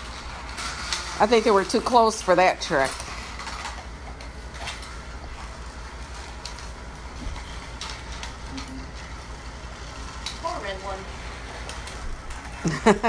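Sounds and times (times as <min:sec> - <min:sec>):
toy race cars whirring and rattling: 0:00.0 - 0:13.0.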